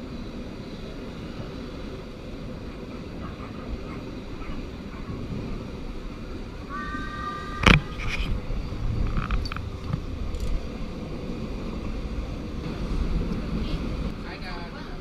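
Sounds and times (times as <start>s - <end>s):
train carriage rumbling on track: 0.0s - 15.0s.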